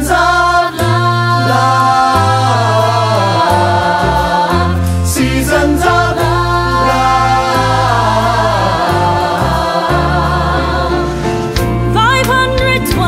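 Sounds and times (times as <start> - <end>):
choir holding a chord: 0.0 - 11.6
steady bass line: 0.0 - 13.0.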